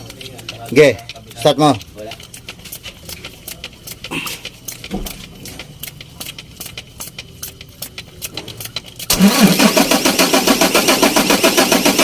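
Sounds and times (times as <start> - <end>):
diesel engine cranking: 0.0 - 12.0.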